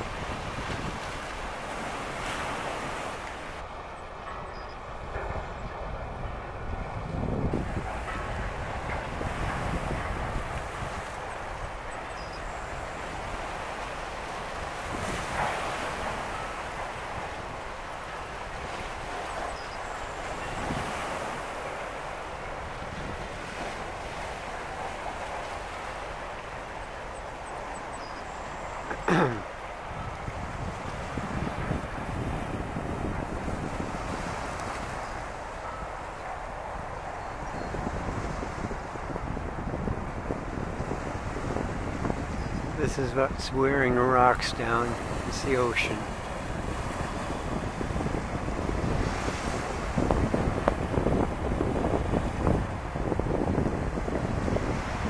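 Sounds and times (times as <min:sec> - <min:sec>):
choppy water washing: 0:00.0 - 0:55.0
wind buffeting microphone: 0:00.0 - 0:55.0.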